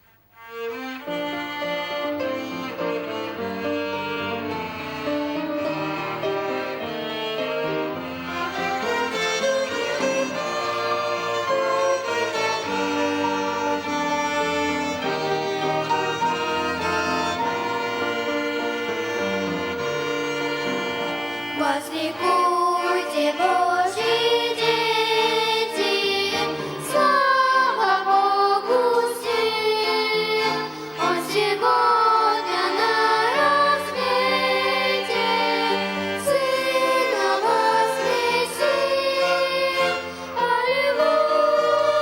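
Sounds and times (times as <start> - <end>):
violin ensemble playing a hymn: 0.0 - 42.0.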